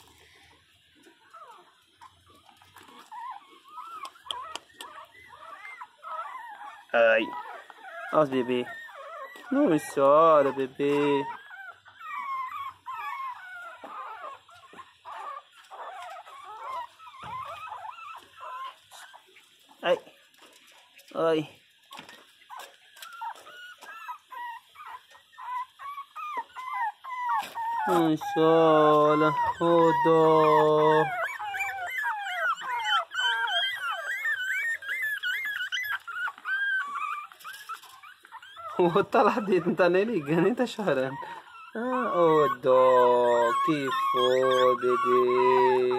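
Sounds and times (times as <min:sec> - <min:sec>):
puppy whimpering and whining: 0:00.0 - 0:19.6, 0:22.0 - 0:45.9.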